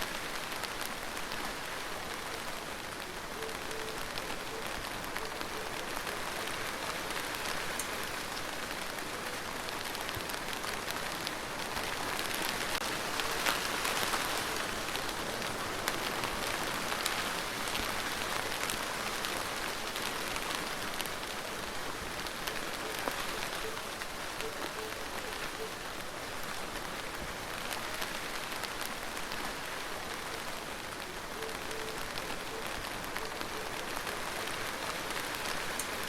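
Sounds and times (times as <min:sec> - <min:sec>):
steady rain on a surface: 0:00.0 - 0:36.0.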